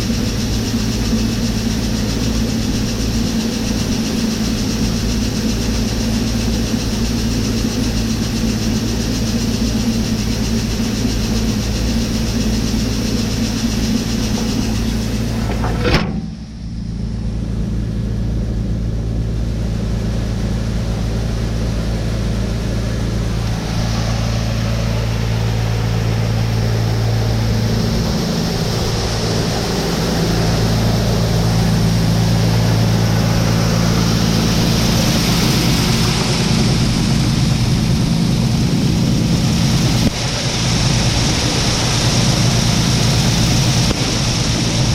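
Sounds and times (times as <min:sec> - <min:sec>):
high hiss: 0:00.0 - 0:17.0, 0:21.1 - 0:44.9
heavy machinery engine droning: 0:00.0 - 0:44.9.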